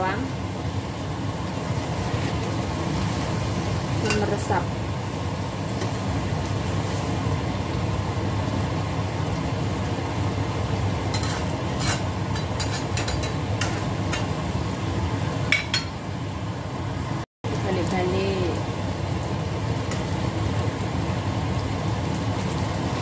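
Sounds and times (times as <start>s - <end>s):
fish simmering in a pan: 0.0s - 23.0s.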